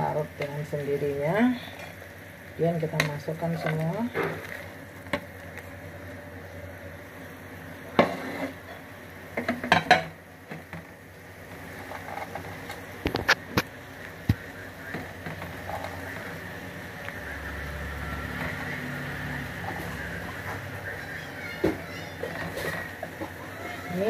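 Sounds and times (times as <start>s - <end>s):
water simmering in pot: 0.0s - 24.0s.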